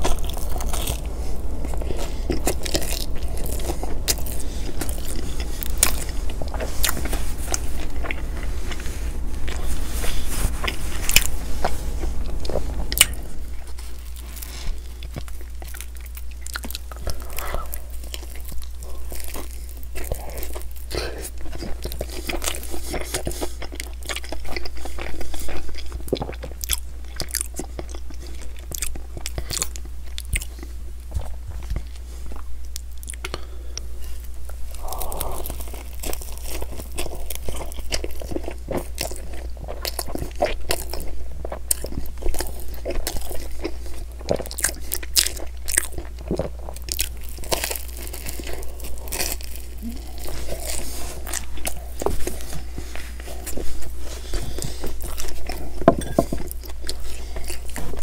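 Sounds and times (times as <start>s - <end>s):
chewing and crunching: 0.0s - 58.0s
low hum: 0.0s - 58.0s.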